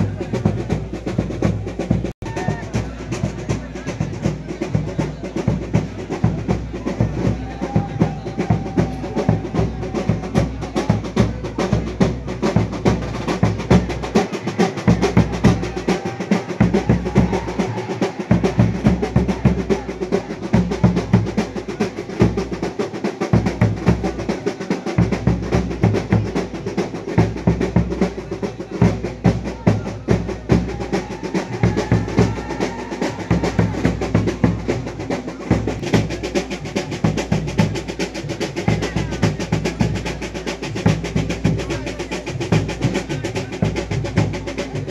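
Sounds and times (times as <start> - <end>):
fast drum rolls: 0.0 - 44.9.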